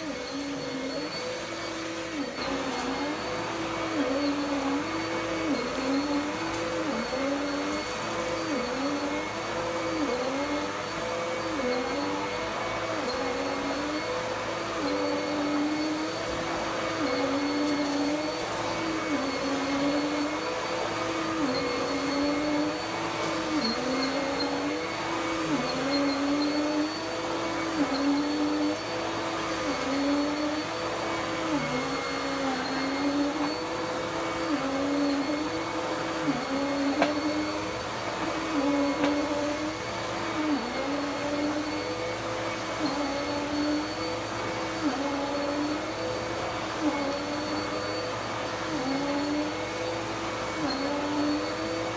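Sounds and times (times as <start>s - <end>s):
upright vacuum cleaner running: 0.0s - 51.9s.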